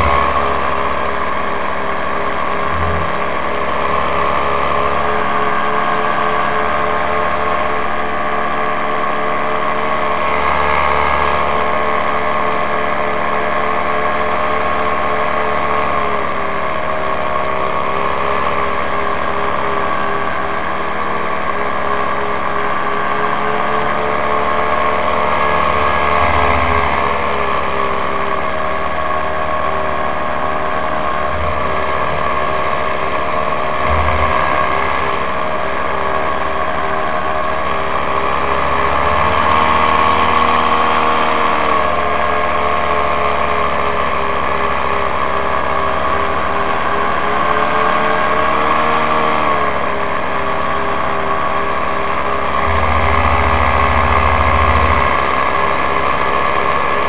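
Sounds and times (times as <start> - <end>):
paramotor engine and propeller: 0.0 - 57.0.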